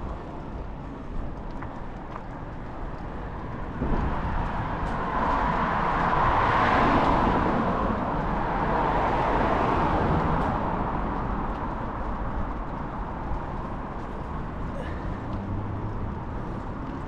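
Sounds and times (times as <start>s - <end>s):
traffic: 0.0s - 17.0s.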